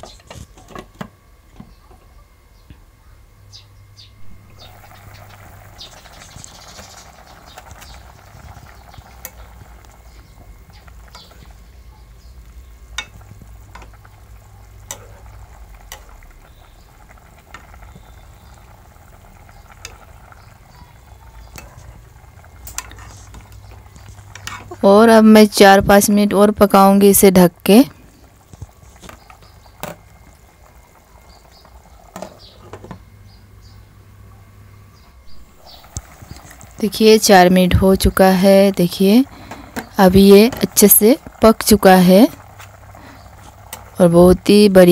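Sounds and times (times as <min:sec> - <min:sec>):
curry bubbling and simmering: 0:04.5 - 0:25.6, 0:26.6 - 0:33.1, 0:35.4 - 0:44.9.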